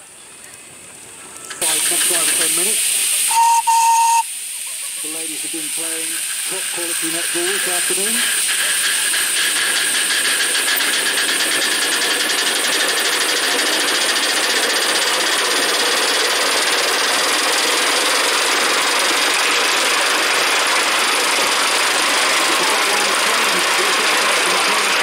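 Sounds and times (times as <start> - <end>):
steady steam hiss: 0.0 - 25.0
steam locomotive chuffing: 0.0 - 25.0.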